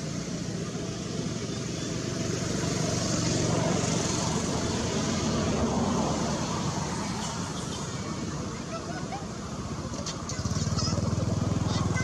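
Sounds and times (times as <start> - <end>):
passing vehicle engine hum: 0.0 - 12.0
rushing noise of vehicle: 0.0 - 12.0.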